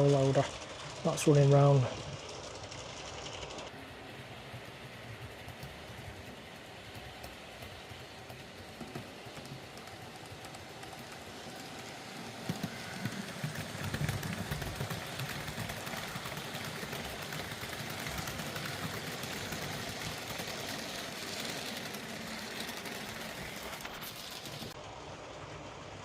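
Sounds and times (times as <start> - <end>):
model train rolling on track: 0.0 - 26.0.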